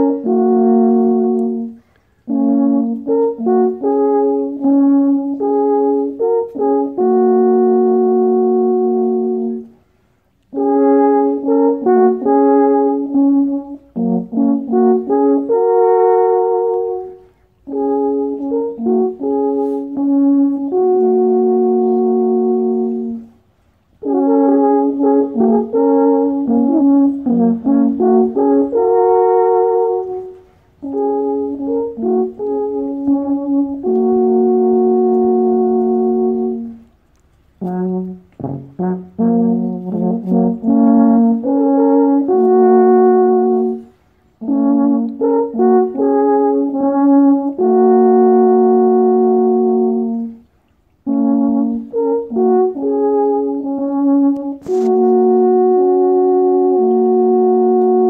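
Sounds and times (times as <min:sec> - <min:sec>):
alphorns playing in harmony: 0:00.0 - 0:58.0.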